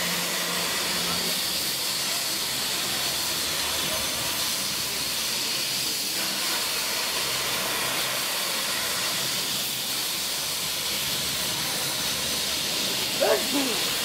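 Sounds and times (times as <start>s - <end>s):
steam hissing from locomotive: 0.0s - 14.0s.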